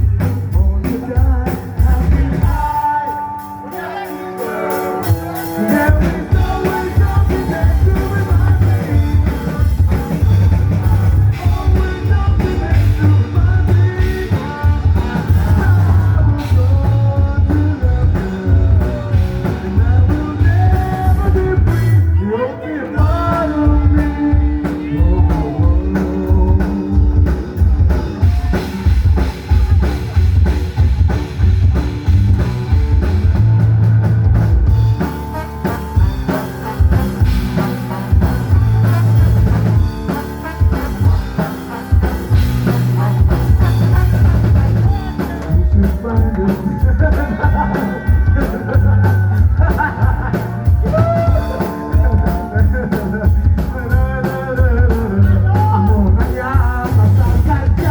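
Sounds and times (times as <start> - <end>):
person singing: 0.0 - 31.5, 35.0 - 57.9
drum kit: 0.0 - 57.9
electric guitar: 0.0 - 57.9.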